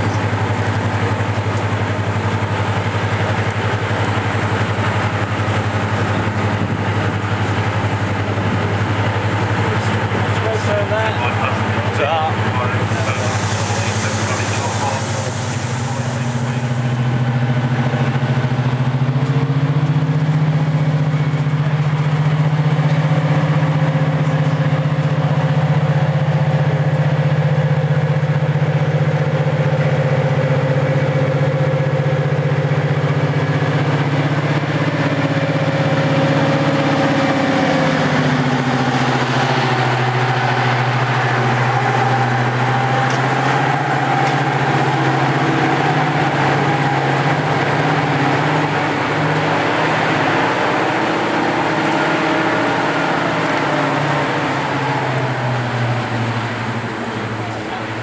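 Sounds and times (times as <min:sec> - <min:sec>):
diesel locomotive idling: 0:00.0 - 0:58.0.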